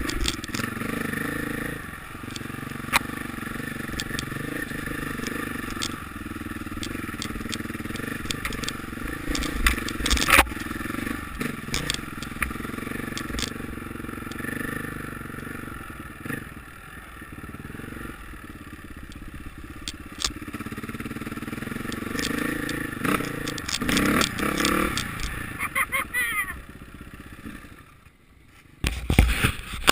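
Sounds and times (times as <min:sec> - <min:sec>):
motorcycle engines running: 0:00.0 - 0:29.9.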